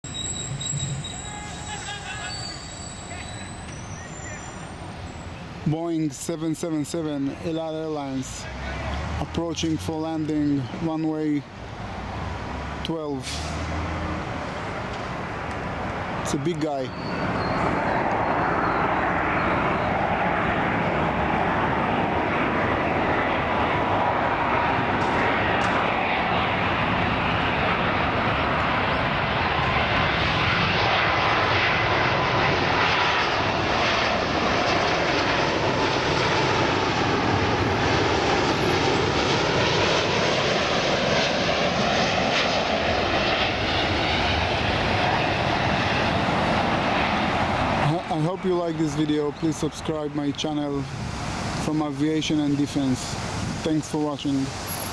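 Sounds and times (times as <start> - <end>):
jet airliner landing: 0.0 - 54.9.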